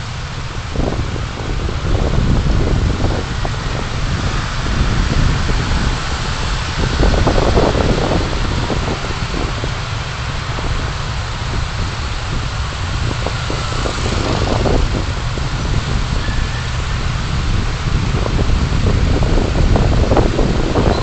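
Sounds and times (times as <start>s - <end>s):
car interior road rumble: 0.0s - 21.0s
constant hiss: 0.0s - 21.0s.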